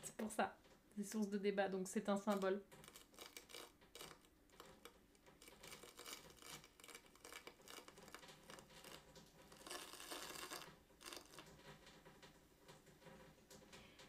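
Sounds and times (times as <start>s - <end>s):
faint scratchy rustling: 0.0s - 14.0s.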